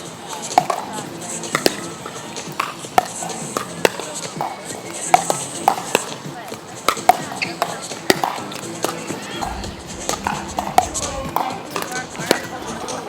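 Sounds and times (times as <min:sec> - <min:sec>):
background music: 0:00.0 - 0:13.0
indistinct voices: 0:00.0 - 0:13.0.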